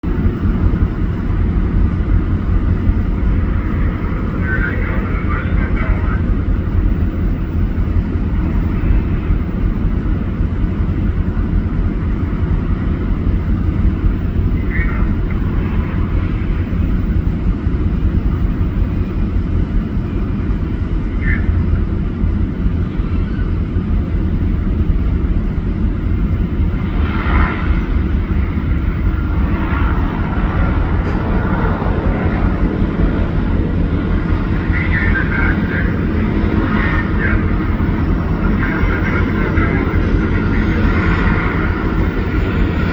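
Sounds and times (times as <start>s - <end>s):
propeller engine droning: 0.0s - 42.9s.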